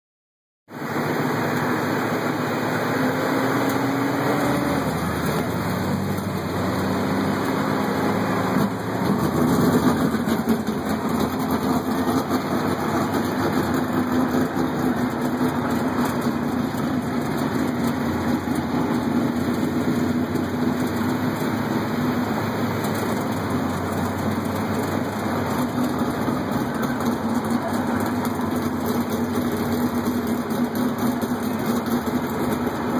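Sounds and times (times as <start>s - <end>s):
race car engine running: 0.7s - 32.9s
truck engine from inside cab: 0.7s - 32.9s.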